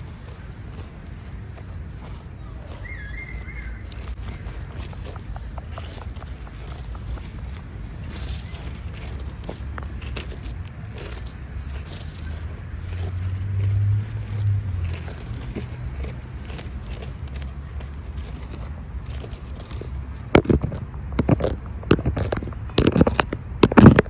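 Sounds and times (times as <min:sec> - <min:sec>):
crunching and scraping strokes: 0:00.0 - 0:24.0.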